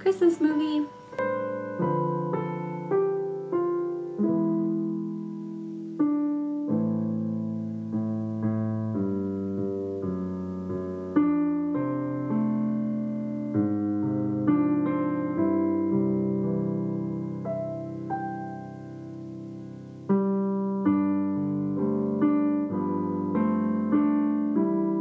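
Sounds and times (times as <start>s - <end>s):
slow solo piano chords: 0.0s - 25.0s.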